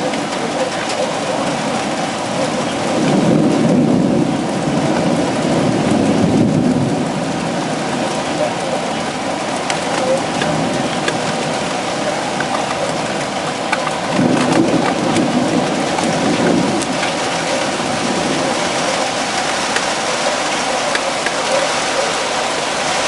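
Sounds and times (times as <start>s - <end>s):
heavy rain pouring: 0.0s - 23.0s
low rumble of thunder: 0.0s - 23.0s.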